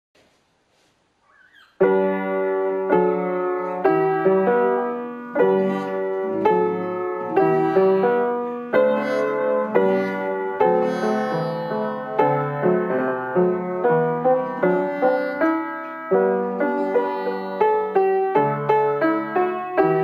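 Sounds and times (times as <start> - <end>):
piano chords: 1.8 - 20.0.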